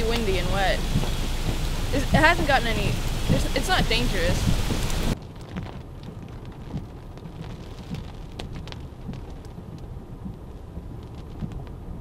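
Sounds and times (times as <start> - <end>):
heavy rain rumble: 0.0 - 12.0
raindrops tapping: 0.0 - 12.0.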